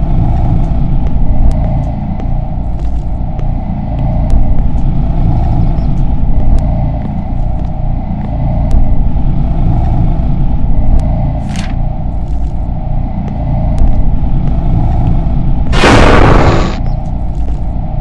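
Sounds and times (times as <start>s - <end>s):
low rumbling drone: 0.0s - 18.0s.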